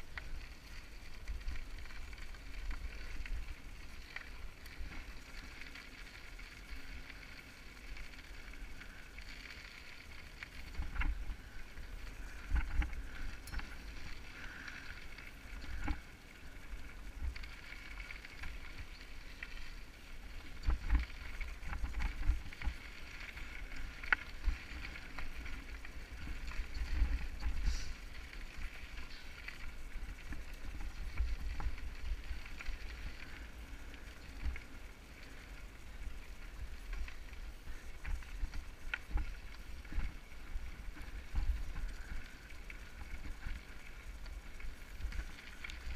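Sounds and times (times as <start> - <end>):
bike tyres on gravel: 0.0 - 45.9.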